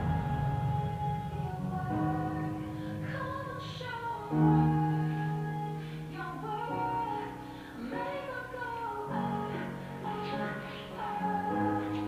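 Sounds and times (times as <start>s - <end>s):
woman singing long held notes: 0.0s - 12.0s.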